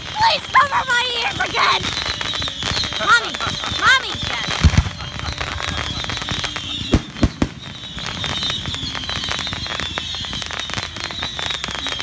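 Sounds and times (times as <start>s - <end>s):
fireworks crackling: 0.0s - 12.0s
loud fireworks bangs: 0.0s - 12.0s
whistling fireworks screeching: 0.0s - 12.0s.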